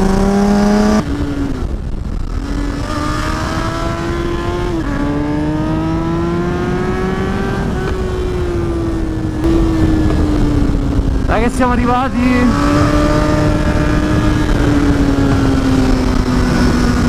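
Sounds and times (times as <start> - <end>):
motorcycle engine revving: 0.0 - 17.0
wind noise: 0.0 - 17.0.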